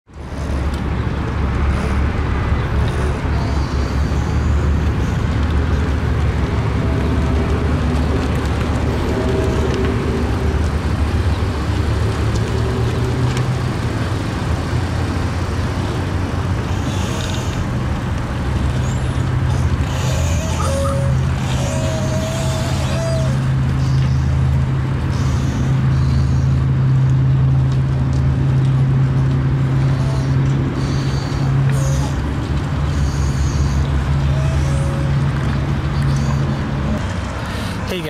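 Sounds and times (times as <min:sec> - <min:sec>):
motor vehicle running: 0:00.0 - 0:38.0
road traffic noise: 0:00.0 - 0:38.0.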